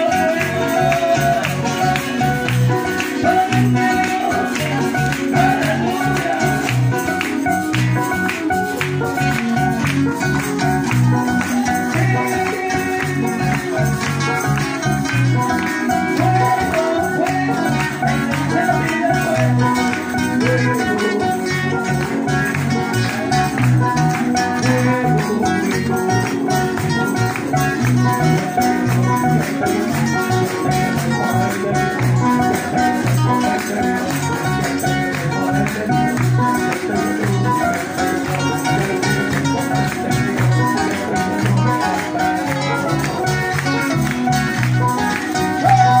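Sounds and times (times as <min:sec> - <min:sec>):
man singing into microphone: 0:00.0 - 0:27.2, 0:28.0 - 0:44.0, 0:44.7 - 0:46.0
amplified band playing: 0:00.0 - 0:46.0.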